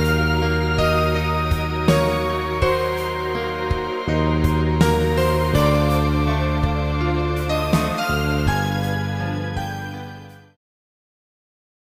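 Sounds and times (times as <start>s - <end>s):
background music: 0.0s - 10.6s.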